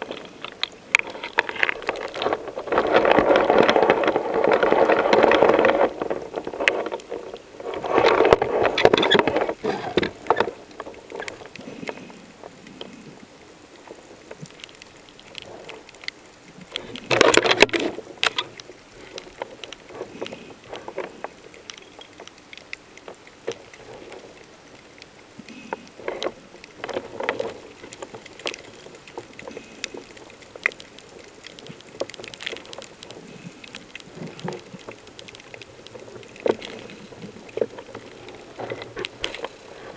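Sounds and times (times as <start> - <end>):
faint crackling clicks: 0.0 - 39.9
underwater bubbling water: 0.0 - 39.9.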